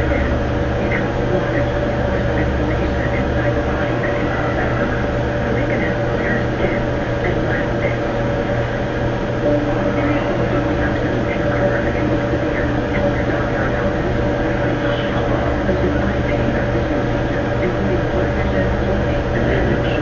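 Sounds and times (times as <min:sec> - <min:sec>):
dense noise: 0:00.0 - 0:20.0
indistinct voice fragments: 0:00.0 - 0:20.0
steady hum: 0:00.0 - 0:20.0.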